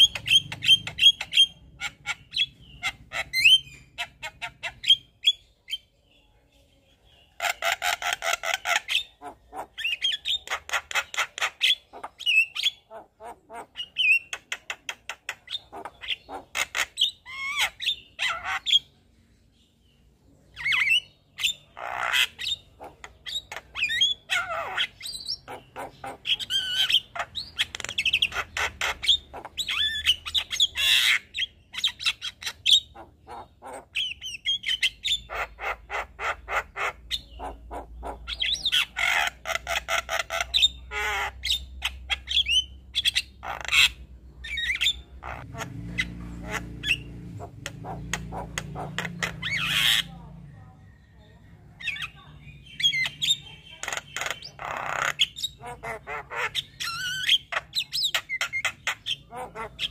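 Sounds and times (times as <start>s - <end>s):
bird song with clicks and squawks: 0.0s - 59.9s.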